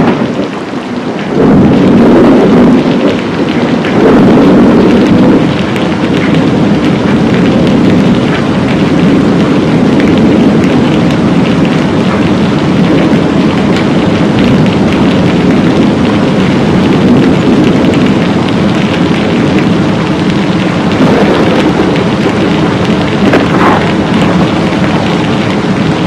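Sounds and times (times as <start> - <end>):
heavy rainfall: 0.0 - 26.0.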